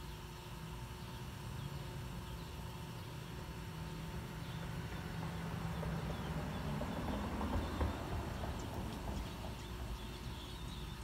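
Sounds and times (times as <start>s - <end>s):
vehicle engine rumbling: 2.0s - 11.0s.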